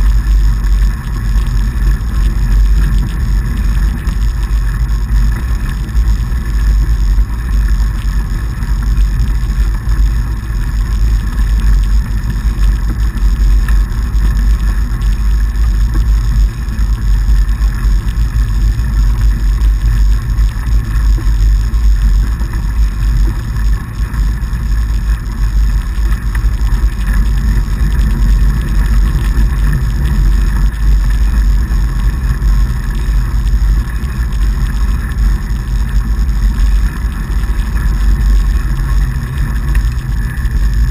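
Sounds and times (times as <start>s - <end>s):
bike tires rolling over snow: 0.0s - 40.9s.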